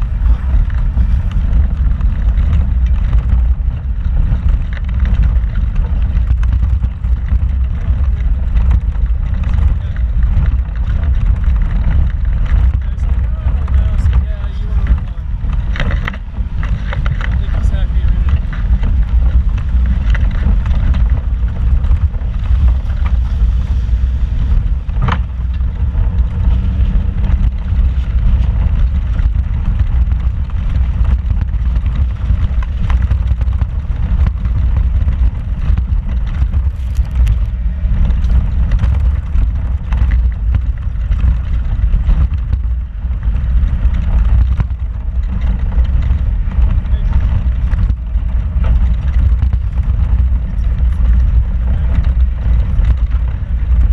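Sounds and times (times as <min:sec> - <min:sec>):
knocks and rattles: 0:00.0 - 0:53.9
vehicle engine and tyres rumbling: 0:00.0 - 0:53.9.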